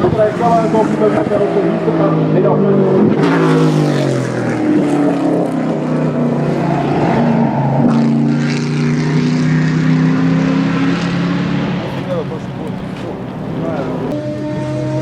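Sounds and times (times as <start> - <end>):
stock car engine running: 0.0 - 15.0.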